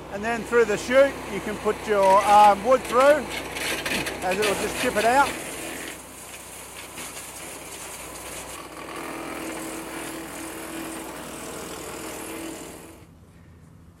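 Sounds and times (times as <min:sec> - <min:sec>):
chipper shredder engine running: 0:00.0 - 0:13.1.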